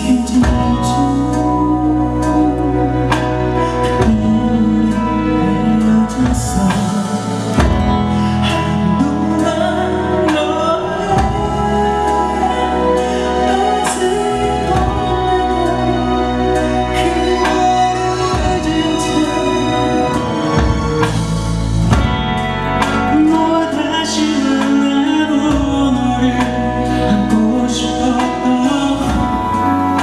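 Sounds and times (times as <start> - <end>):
instrumental accompaniment: 0.0 - 30.0
male vocal group singing: 0.0 - 30.0.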